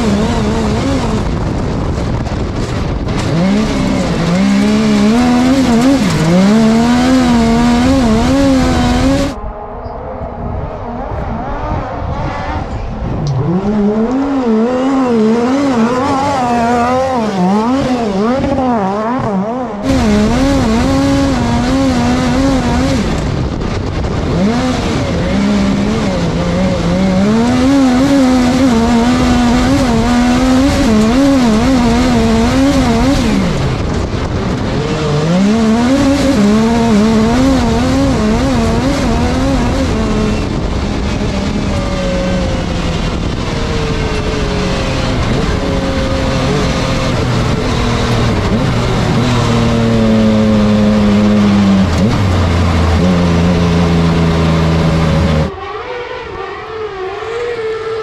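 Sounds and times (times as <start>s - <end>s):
racing engine revving: 0.0s - 58.0s.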